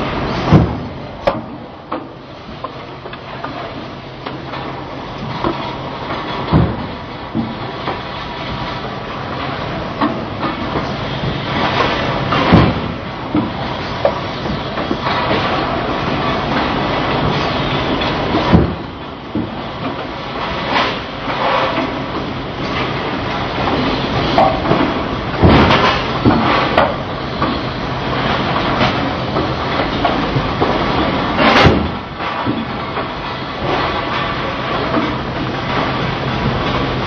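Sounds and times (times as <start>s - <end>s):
factory machinery humming: 0.0s - 37.0s.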